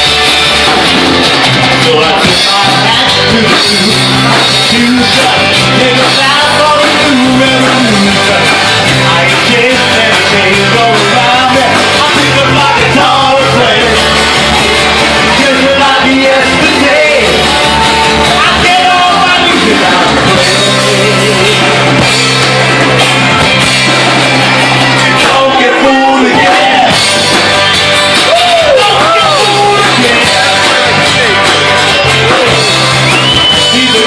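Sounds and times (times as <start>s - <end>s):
live rock band playing: 0.0s - 34.0s
man singing lead vocal: 1.6s - 22.8s, 24.9s - 27.1s, 28.3s - 34.0s.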